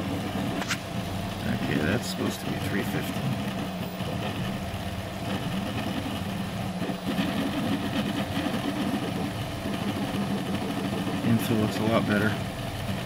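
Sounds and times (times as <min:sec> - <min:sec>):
printer motors humming: 0:00.0 - 0:13.0.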